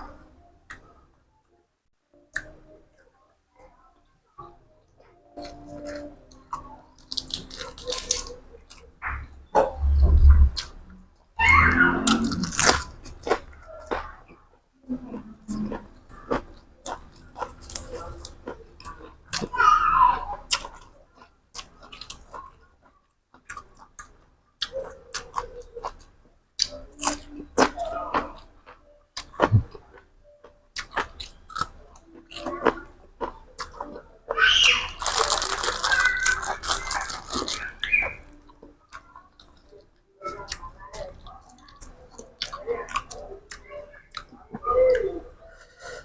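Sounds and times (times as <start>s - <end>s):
chewing and crunching food: 2.2s - 46.0s.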